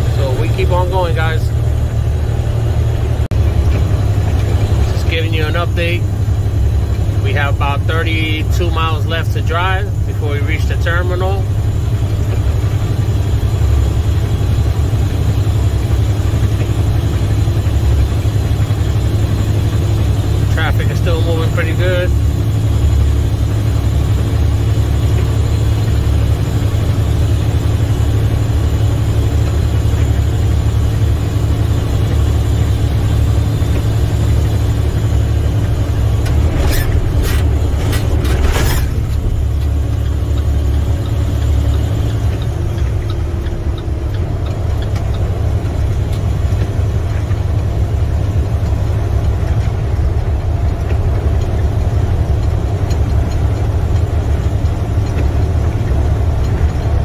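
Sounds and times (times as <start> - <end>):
truck diesel engine drone: 0.0 - 57.0
tyres on wet road: 0.0 - 57.0.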